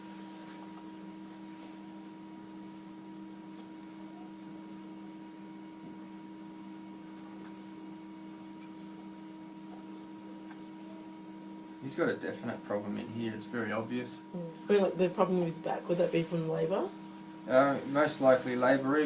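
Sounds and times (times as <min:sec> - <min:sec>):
faint room hiss: 0:00.0 - 0:19.0
steady electrical hum: 0:00.0 - 0:19.0.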